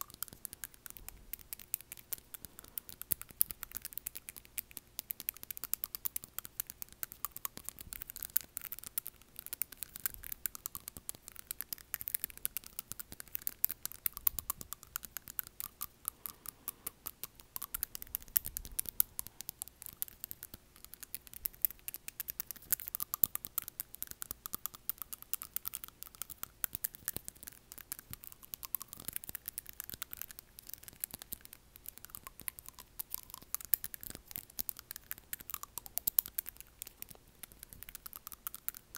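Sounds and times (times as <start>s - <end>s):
fingernails tapping on teeth: 0.0s - 38.9s.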